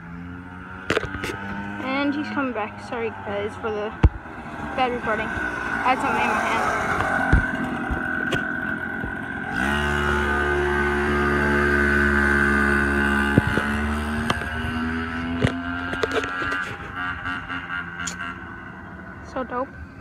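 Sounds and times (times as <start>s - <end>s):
small engine running: 0.0s - 18.4s.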